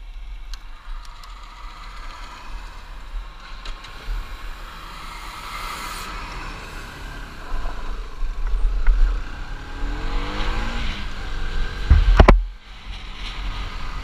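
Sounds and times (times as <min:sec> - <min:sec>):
truck passing by: 0:00.8 - 0:12.2.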